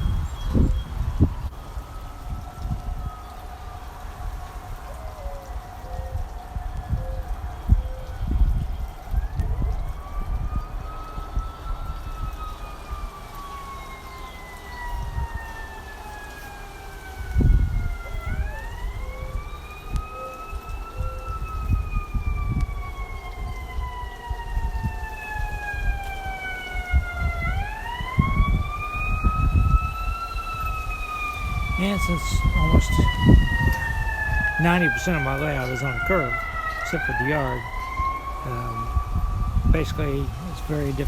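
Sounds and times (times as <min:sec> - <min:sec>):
siren wailing: 0:00.1 - 0:41.0.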